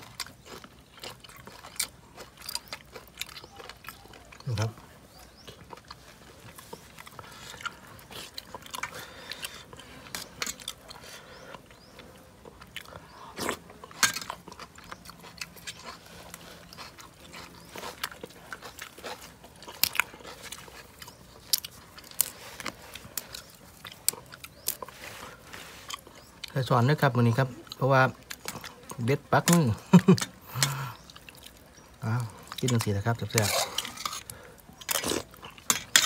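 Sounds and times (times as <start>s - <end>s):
crunchy chewing: 0.0s - 36.0s.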